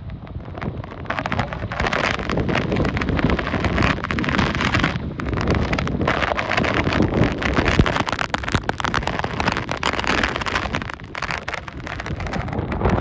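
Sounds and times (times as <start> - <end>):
hurricane wind and rain: 0.0 - 13.0.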